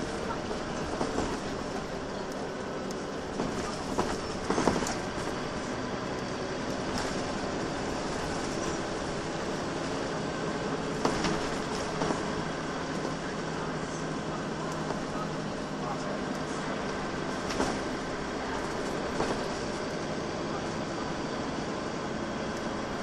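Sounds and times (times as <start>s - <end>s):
bus diesel engine drone: 0.0s - 23.0s
road noise: 0.0s - 23.0s.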